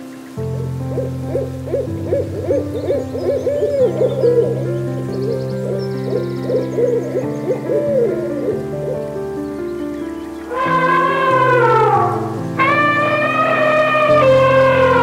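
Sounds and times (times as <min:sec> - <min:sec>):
owl hooting: 0:00.0 - 0:09.2, 0:09.9 - 0:15.0.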